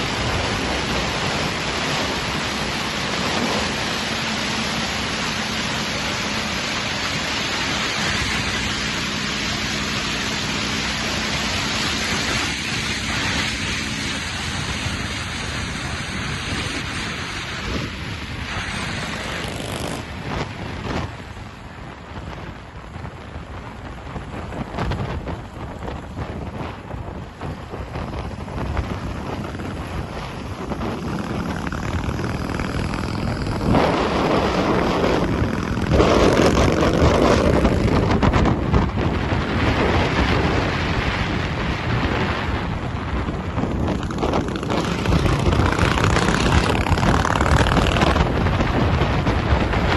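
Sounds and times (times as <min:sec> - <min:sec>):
motorcycle engine running: 0:00.0 - 0:21.7, 0:24.4 - 0:39.5, 0:41.9 - 0:49.9
wind noise on microphone: 0:00.0 - 0:49.9.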